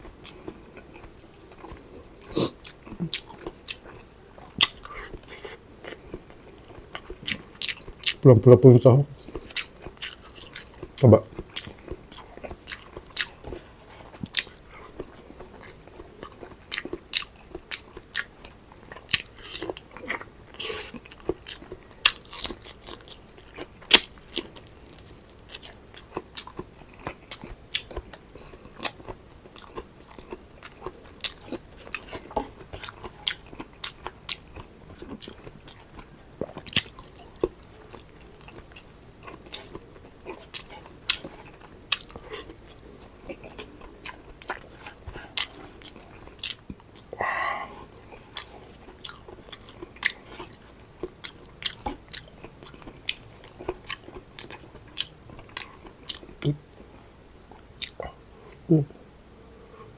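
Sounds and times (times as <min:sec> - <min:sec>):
person chewing food: 0:00.0 - 0:08.2, 0:09.0 - 0:58.9.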